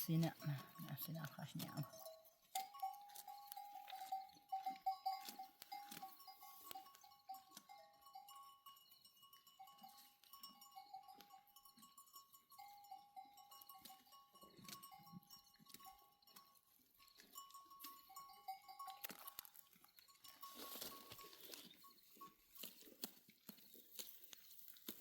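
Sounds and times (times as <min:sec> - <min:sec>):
animal bells clinking: 0:00.0 - 0:25.0
grazing sheep and goats: 0:00.0 - 0:25.0.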